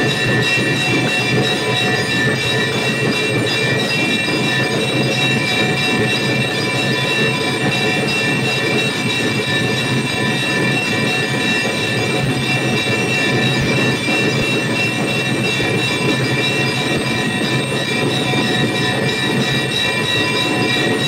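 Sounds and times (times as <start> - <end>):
metal percussion clatter: 0.0 - 21.0
temple bells ringing: 0.0 - 21.0.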